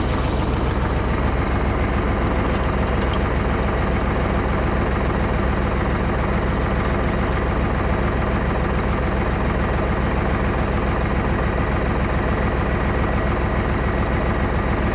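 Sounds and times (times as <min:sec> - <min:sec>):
tractor engine idling: 0:00.0 - 0:14.9.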